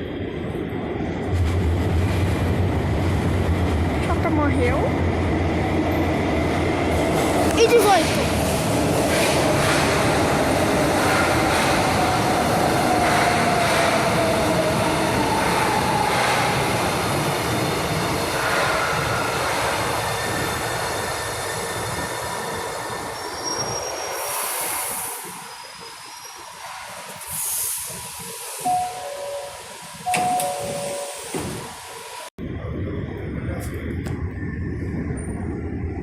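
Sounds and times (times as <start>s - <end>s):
train running on steel wheels: 1.2s - 36.0s.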